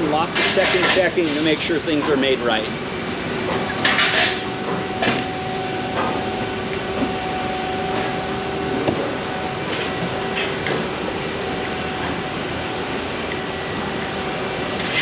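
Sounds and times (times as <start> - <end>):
machinery hum with whine: 0.0 - 15.0.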